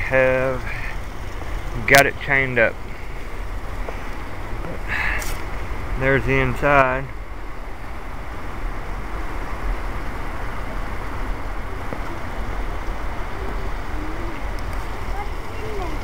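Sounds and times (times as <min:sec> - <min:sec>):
water rushing: 0:00.0 - 0:16.0
wind rumble on microphone: 0:00.0 - 0:16.0.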